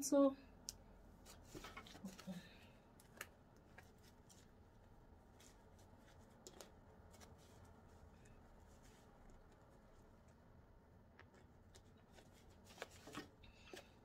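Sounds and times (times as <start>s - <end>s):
faint clicks and rustles: 0.6s - 14.0s.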